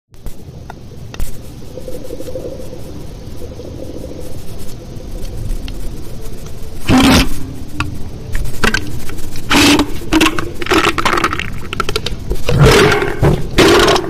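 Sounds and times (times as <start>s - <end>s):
faint wavering hum: 0.2s - 14.0s.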